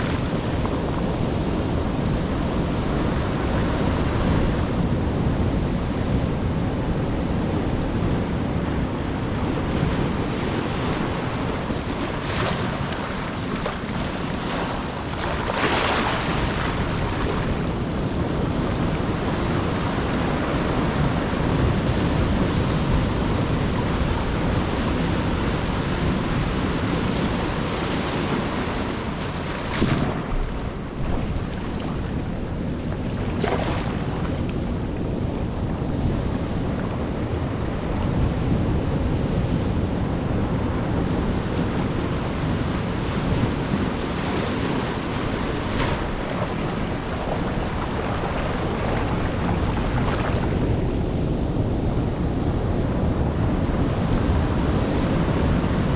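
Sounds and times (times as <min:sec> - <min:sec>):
waves breaking on shore: 0:00.0 - 0:04.9, 0:08.3 - 0:55.9
wind buffeting microphone: 0:00.0 - 0:55.9.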